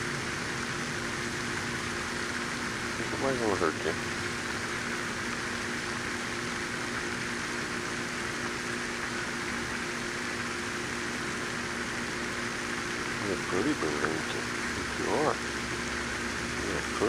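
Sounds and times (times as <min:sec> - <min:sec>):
constant hiss: 0:00.0 - 0:17.0
mechanical hum: 0:00.0 - 0:17.0.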